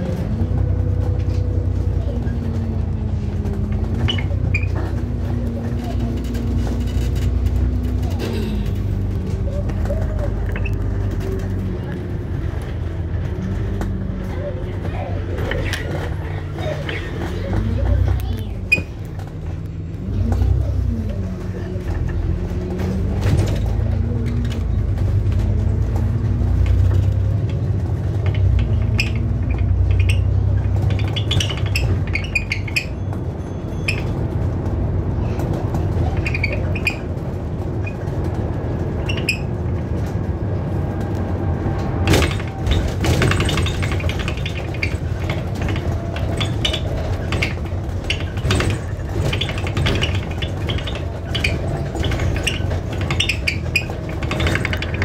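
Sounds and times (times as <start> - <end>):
bus engine drone with whine: 0.0 - 55.0
rattles and clicks of bus fittings: 0.0 - 55.0
road noise: 0.0 - 55.0.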